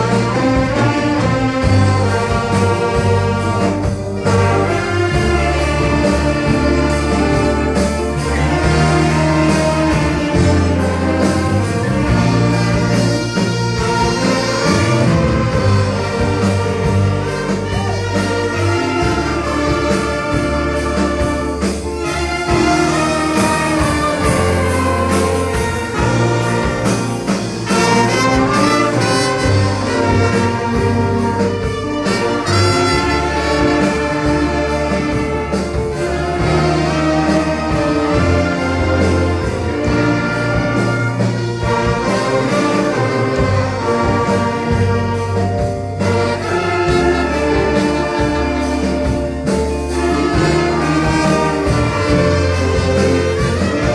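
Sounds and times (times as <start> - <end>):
brass instruments: 0.0 - 53.9
orchestra playing: 0.0 - 53.9
steady bass: 0.0 - 53.9.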